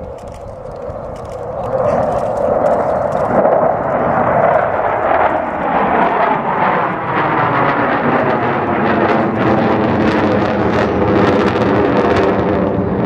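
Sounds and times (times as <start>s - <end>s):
low-flying jet roar: 0.0s - 13.0s.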